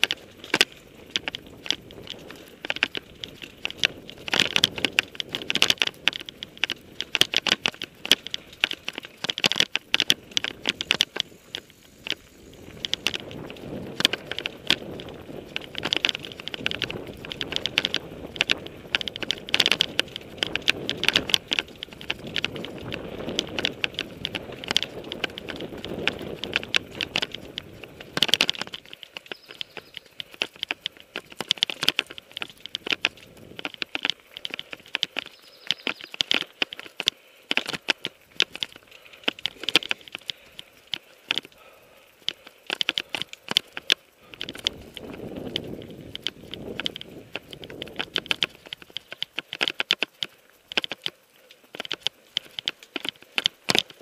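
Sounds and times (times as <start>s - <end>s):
low wind rumble: 0.0s - 36.4s, 38.1s - 49.4s
bike clicks and rattles: 0.0s - 54.0s
bike tyres crunching over gravel: 0.0s - 54.0s.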